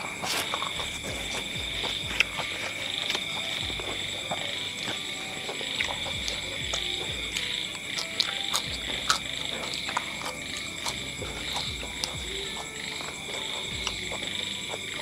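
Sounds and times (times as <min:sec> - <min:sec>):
beans crunching and snapping: 0:00.0 - 0:15.0
chorus of night animals: 0:00.0 - 0:15.0.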